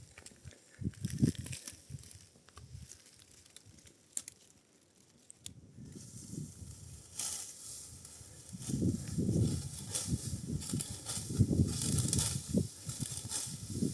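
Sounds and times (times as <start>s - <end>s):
dry wheat stalks rustling: 0.0s - 13.9s.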